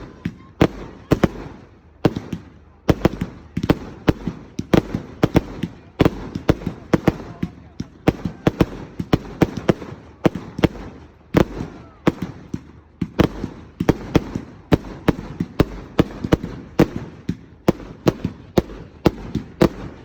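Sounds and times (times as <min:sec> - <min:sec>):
fireworks banging: 0:00.0 - 0:20.0.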